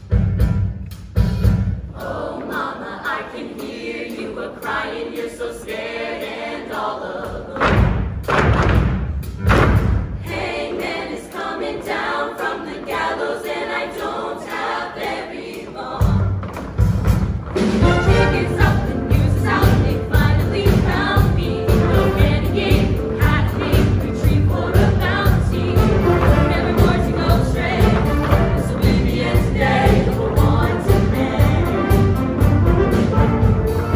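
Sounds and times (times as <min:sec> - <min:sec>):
choir singing in harmony: 0:01.8 - 0:08.0, 0:10.1 - 0:16.4, 0:17.6 - 0:33.9.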